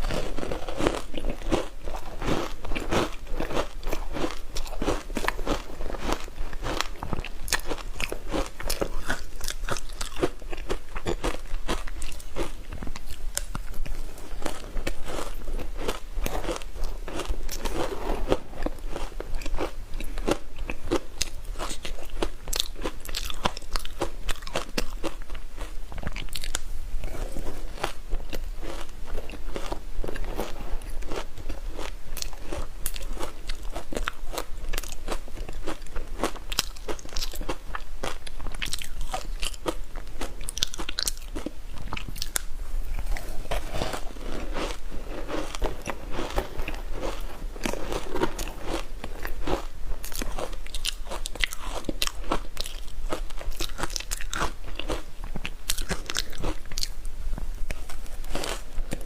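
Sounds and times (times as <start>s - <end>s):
ice being chewed: 0.0s - 57.1s.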